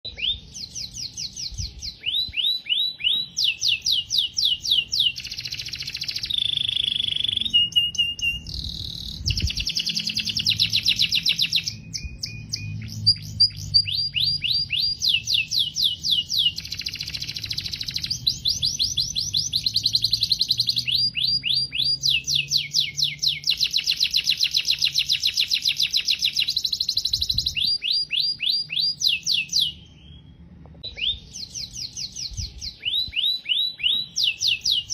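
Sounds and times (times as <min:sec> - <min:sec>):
canary singing: 0:00.0 - 0:34.9.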